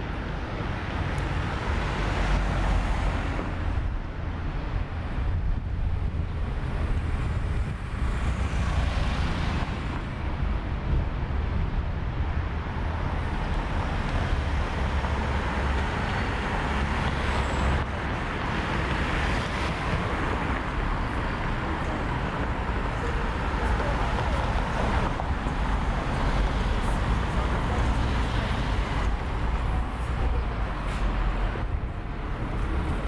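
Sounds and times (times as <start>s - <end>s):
low rumble of road traffic: 0.0s - 33.0s
vehicles driving past: 0.0s - 33.0s.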